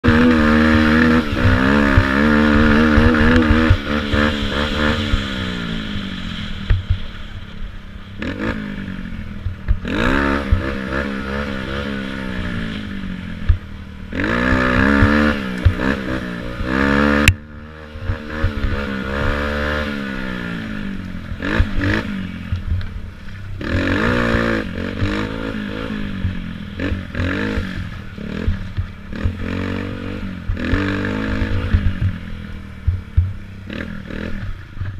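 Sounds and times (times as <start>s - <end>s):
quad engine revving: 0.0s - 34.9s.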